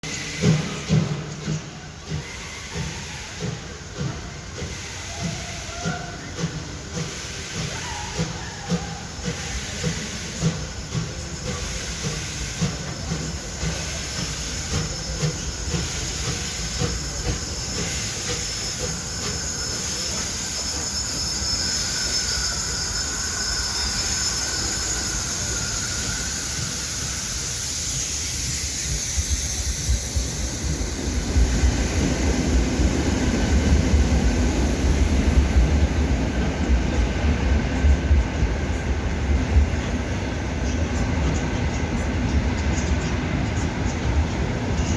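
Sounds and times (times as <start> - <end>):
steam hiss: 0.0 - 44.9
steam locomotive exhaust chuffs: 0.0 - 44.9.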